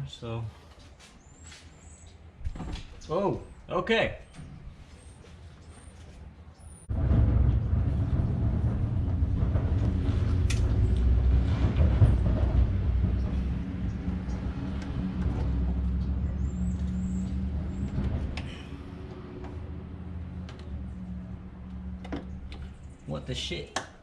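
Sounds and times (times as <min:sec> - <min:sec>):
engine rumbling: 0:00.0 - 0:24.0.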